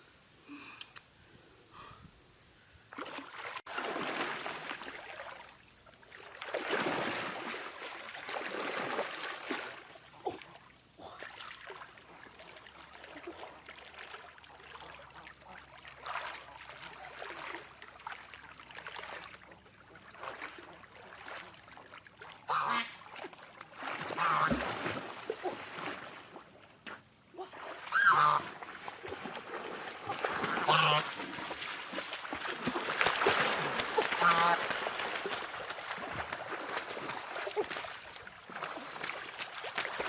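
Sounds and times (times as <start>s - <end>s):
water sloshing and splashing: 2.9s - 40.0s.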